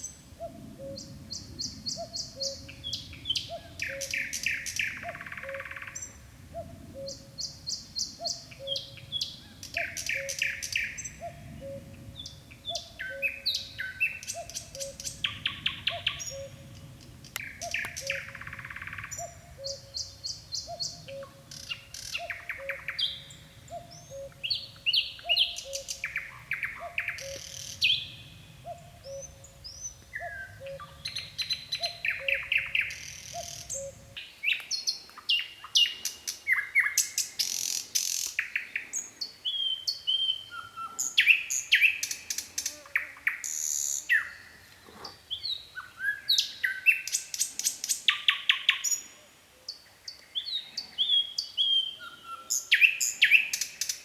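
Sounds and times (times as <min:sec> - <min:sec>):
nightingale singing trills: 0:00.0 - 0:54.0.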